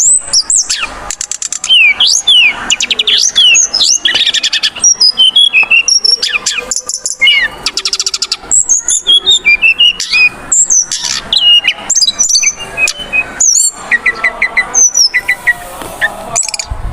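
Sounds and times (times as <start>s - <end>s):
bird singing whistles and trills: 0.0s - 16.8s.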